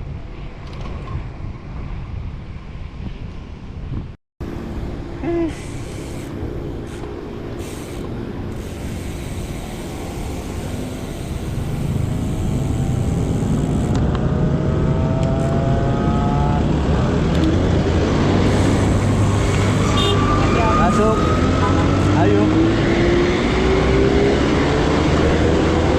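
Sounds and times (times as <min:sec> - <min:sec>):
vehicle engine accelerating: 0:04.4 - 0:25.9.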